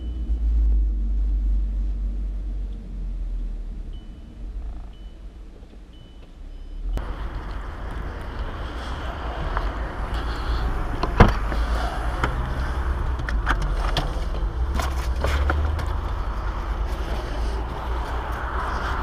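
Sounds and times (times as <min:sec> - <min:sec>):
low rumble inside a car: 0:00.0 - 0:19.0
road traffic: 0:00.0 - 0:19.0.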